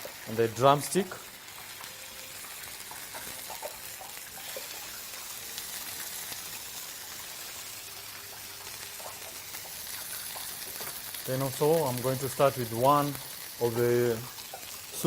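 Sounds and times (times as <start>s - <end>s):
chicken sizzling on a grill: 0.0s - 15.0s.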